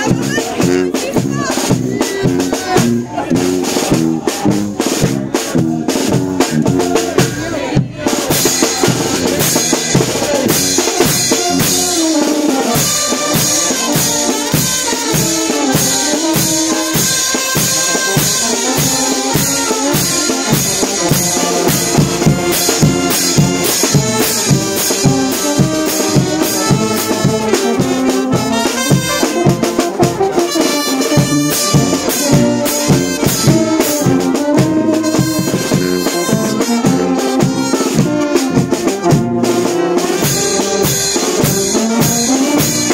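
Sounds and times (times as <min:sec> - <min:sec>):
brass band playing: 0:00.0 - 0:42.9
drums keeping a beat: 0:00.0 - 0:42.9.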